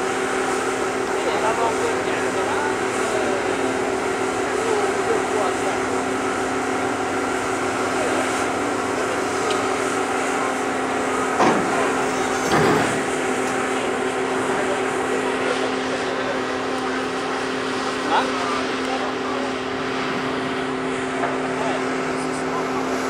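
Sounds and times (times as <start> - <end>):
heavy machinery droning: 0.0 - 23.0.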